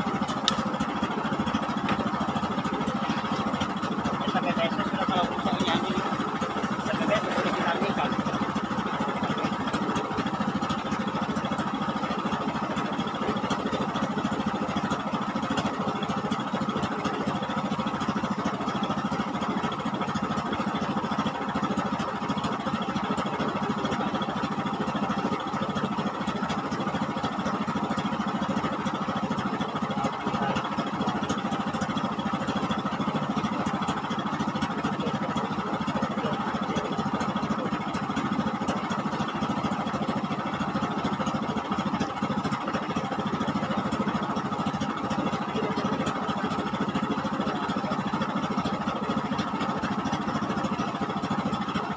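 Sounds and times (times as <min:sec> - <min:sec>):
engine running steadily: 0:00.0 - 0:51.9.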